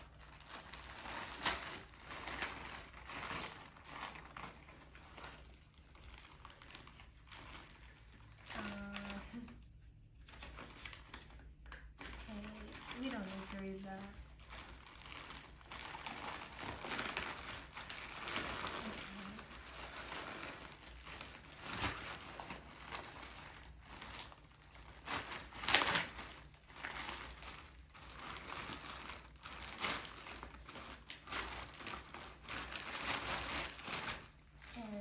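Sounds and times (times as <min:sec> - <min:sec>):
plastic bag crinkling: 0:00.0 - 0:35.0.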